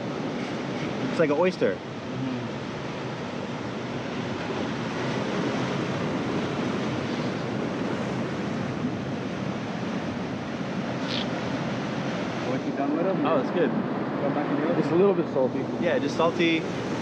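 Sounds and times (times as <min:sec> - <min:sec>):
ocean surf on rocks: 0:00.0 - 0:17.0.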